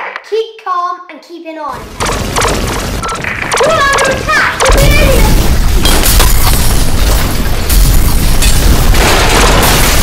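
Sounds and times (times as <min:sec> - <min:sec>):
low rumble of explosions: 0:01.8 - 0:10.0
sharp cracks of debris: 0:02.0 - 0:10.0.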